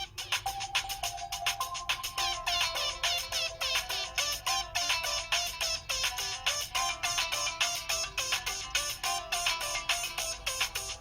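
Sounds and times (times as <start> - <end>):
phone ringtone electronic melody: 0.0 - 11.0.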